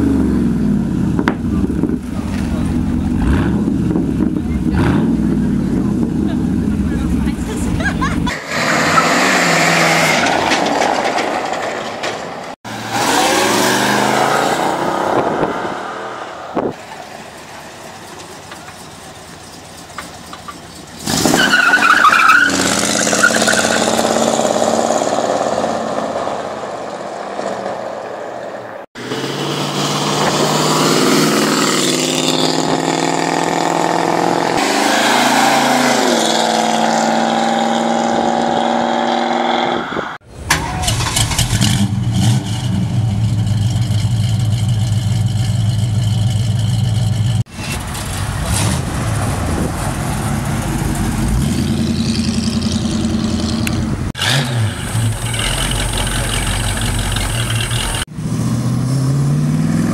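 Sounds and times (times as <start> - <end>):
car engines accelerating: 0.0 - 11.5, 12.7 - 19.6, 20.2 - 59.9.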